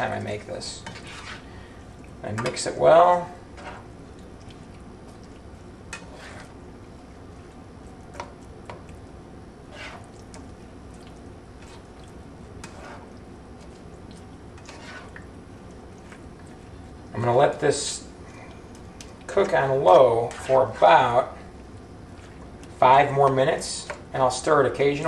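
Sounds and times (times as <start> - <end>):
utensil stirring food in a pan: 0.0 - 25.0.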